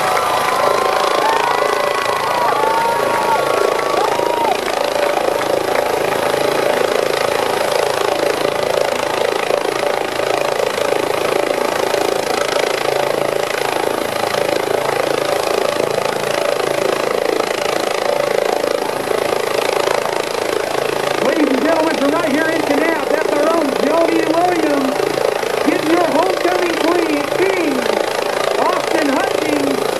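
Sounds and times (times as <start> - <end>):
helicopter turbine and rotor: 0.0 - 29.9.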